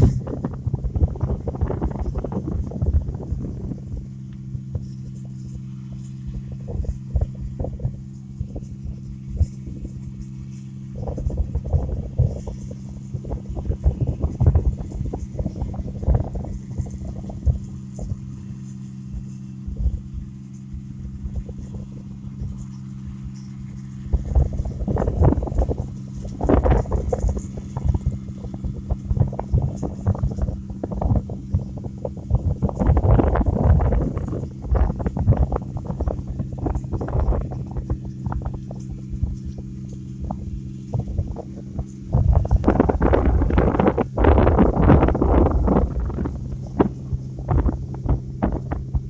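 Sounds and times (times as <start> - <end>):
combine harvester engine humming: 0.0 - 49.0
wind buffeting microphone: 0.0 - 49.0.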